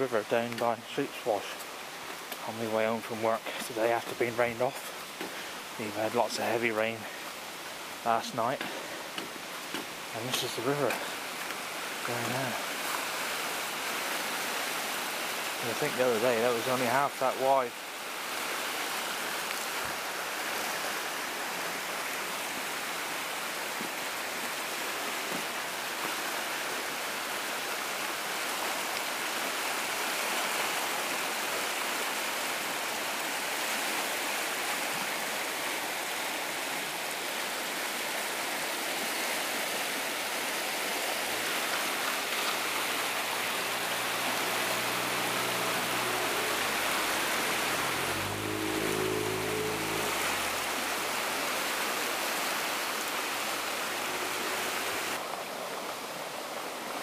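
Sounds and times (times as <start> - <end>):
floodwater rushing over rocks: 0.0 - 57.0.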